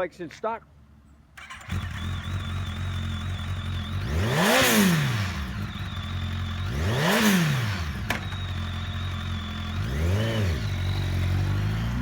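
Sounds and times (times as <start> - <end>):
motorcycle engine idling: 1.4 - 12.0
motorcycle engine revving: 1.4 - 12.0.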